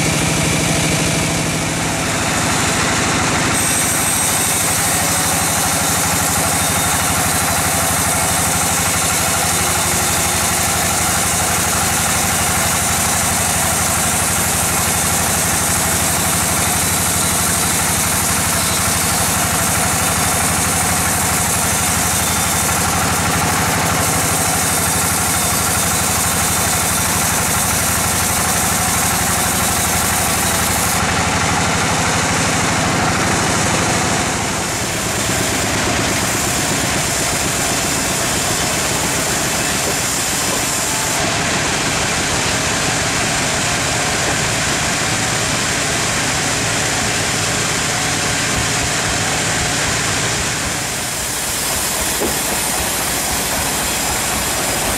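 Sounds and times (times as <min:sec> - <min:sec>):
bandsaw cutting log: 0:00.0 - 0:54.9.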